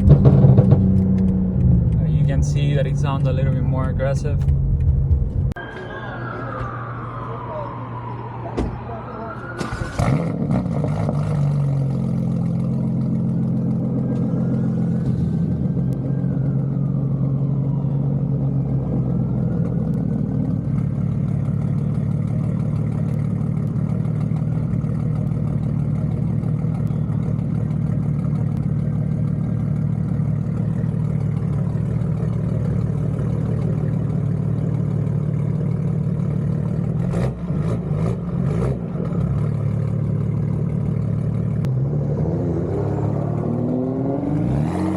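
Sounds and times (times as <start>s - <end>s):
car engine idling: 0.0s - 5.6s, 11.4s - 42.0s.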